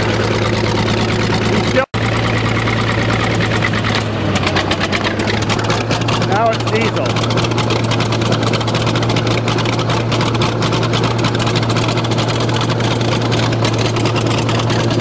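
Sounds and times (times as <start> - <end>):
bulldozer engine idling: 0.0 - 15.0.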